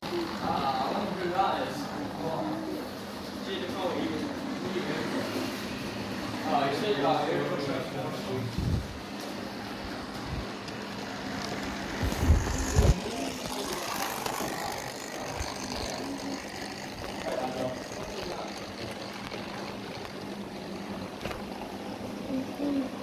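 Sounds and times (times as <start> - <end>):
model train running hum: 0.0 - 23.0.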